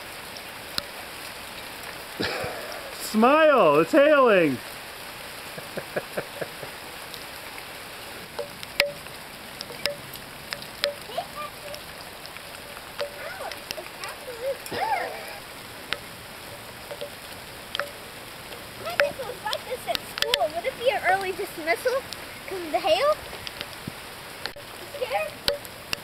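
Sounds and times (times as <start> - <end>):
hail falling on hard surfaces: 0.0 - 26.0.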